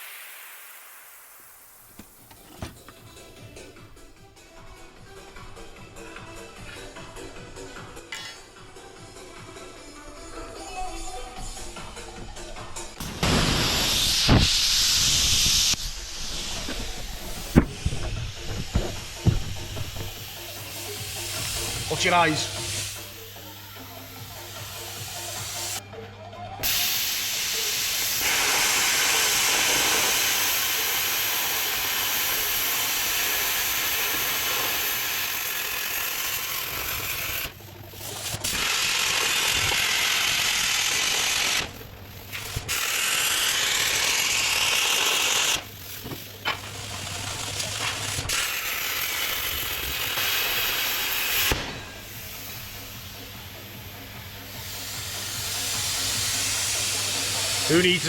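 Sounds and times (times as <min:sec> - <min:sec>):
plasma cutter hissing: 0:00.0 - 0:02.6, 0:13.0 - 0:25.8, 0:26.6 - 0:58.0.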